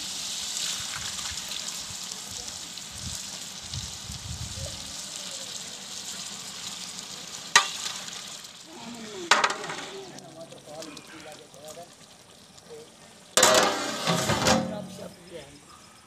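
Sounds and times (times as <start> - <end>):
curry bubbling and sizzling: 0.0 - 15.4.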